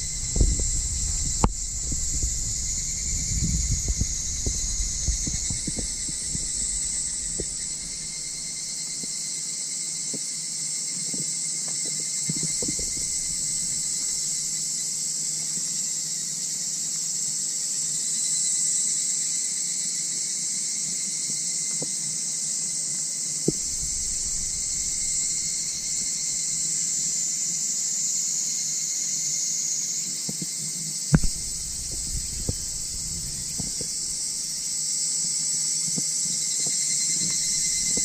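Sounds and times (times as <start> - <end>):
night insects trilling: 0.0 - 38.0.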